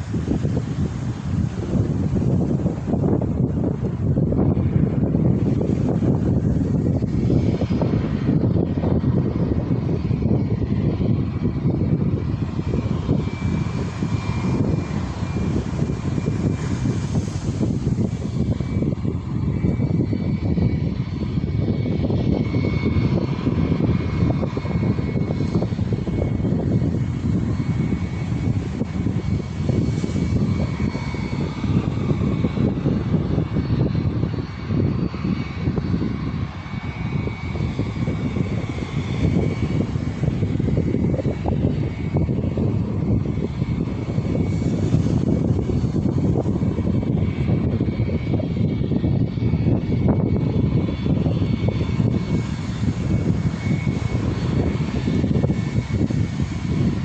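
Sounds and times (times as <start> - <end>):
faint high jet whine: 0.0 - 57.0
jet engines rumbling: 0.0 - 57.0.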